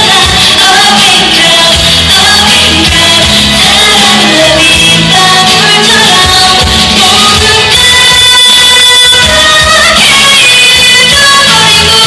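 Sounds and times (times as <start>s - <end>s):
live pop band: 0.0s - 12.0s
woman singing: 0.0s - 12.0s.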